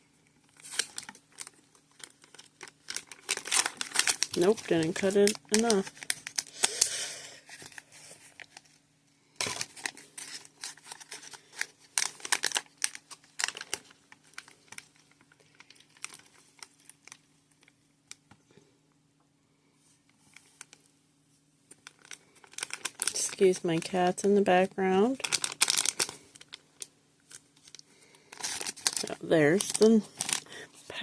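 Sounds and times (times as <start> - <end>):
plastic packaging crinkling and tearing: 0.4 - 8.8, 9.4 - 18.2, 21.7 - 24.3, 24.9 - 30.7.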